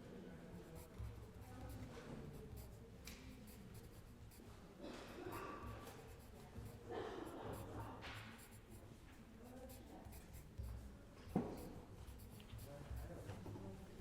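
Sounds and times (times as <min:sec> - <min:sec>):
pen scratching on paper: 0:00.6 - 0:13.4.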